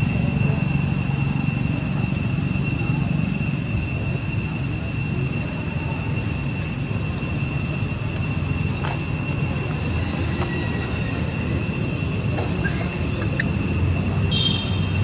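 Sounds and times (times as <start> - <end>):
insects shrilling in chorus: 0.0 - 15.0.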